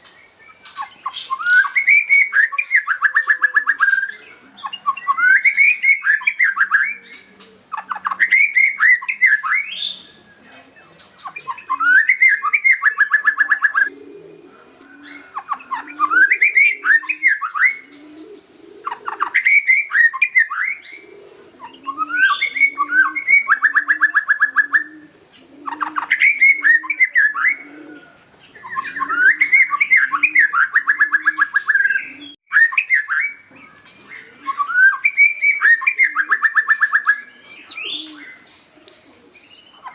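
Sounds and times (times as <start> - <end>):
bird singing whistled trills: 0.0 - 25.0, 25.6 - 39.9
dove cooing: 0.0 - 39.9.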